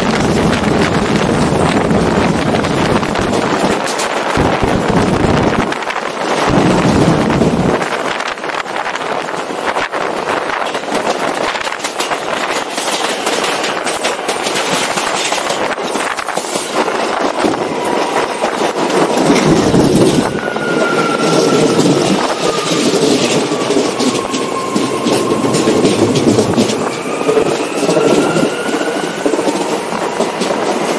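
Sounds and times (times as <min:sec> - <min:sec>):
train running at speed: 0:00.0 - 0:30.9
wheels clicking over rails: 0:00.0 - 0:30.9.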